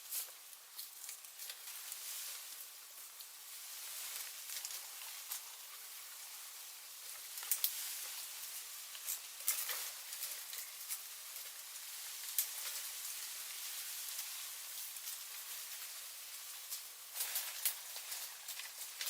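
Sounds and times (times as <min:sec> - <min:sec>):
steady hiss: 0:00.0 - 0:19.0
sticks and leaves rustling: 0:00.0 - 0:19.0.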